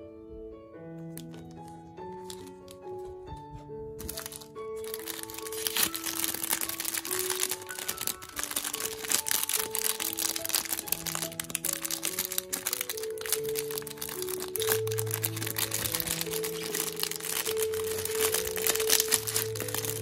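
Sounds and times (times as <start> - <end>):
background music with held notes: 0.0 - 20.0
plastic bag crinkling: 1.1 - 3.2, 4.0 - 20.0.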